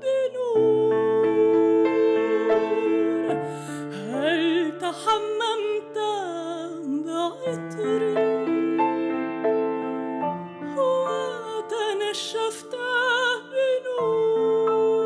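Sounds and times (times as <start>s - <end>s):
soprano singing with vibrato: 0.0s - 15.0s
grand piano accompaniment: 0.1s - 15.0s.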